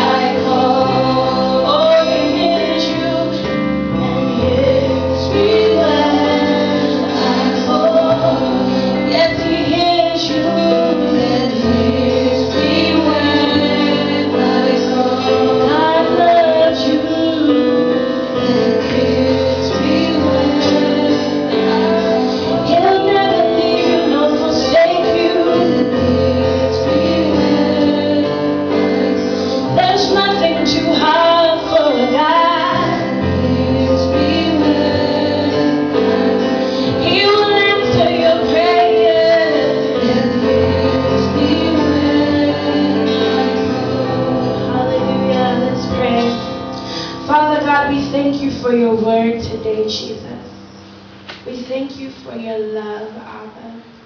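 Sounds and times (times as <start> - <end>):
woman singing: 0.0 - 46.6, 47.3 - 50.4
sustained instrumental chords: 0.0 - 51.6.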